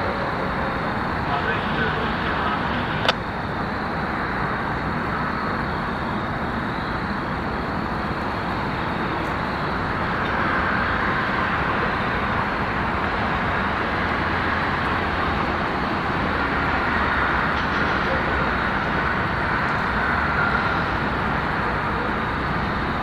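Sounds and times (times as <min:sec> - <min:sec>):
faint high whine: 0:00.0 - 0:23.0
passing vehicles rumbling: 0:00.0 - 0:23.0.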